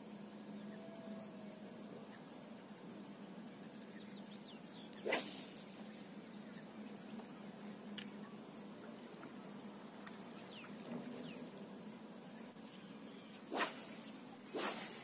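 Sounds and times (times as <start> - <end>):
small birds chirping: 0.1 - 14.9.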